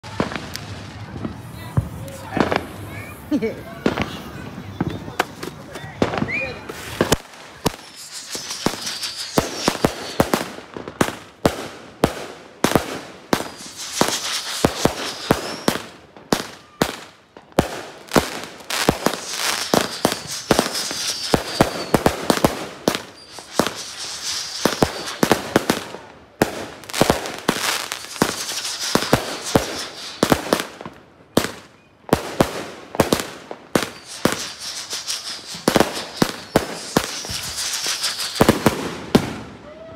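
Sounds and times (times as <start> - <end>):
fireworks bangs: 0.0 - 39.9
fireworks crackling and hissing: 0.0 - 39.9.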